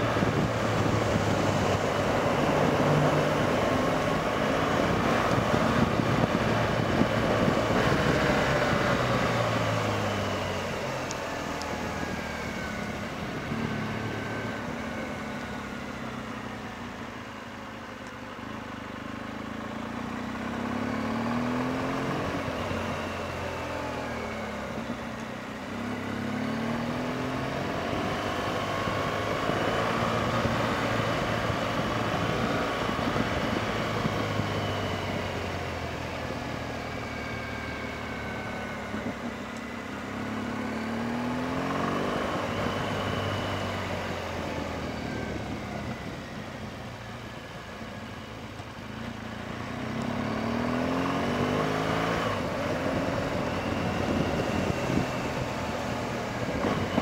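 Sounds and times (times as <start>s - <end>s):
motorcycle engine revving: 0.0s - 15.9s, 19.5s - 46.6s, 48.9s - 57.0s.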